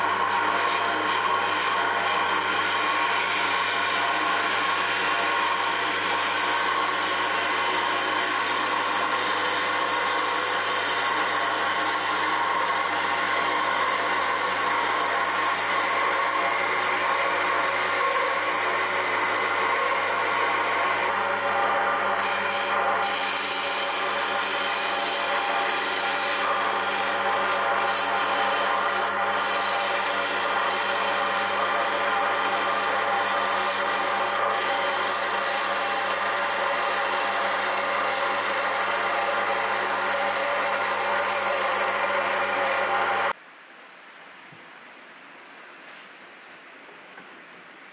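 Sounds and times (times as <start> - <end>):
turning tool scraping wood: 0.0 - 43.4
wood lathe hum: 0.0 - 43.4.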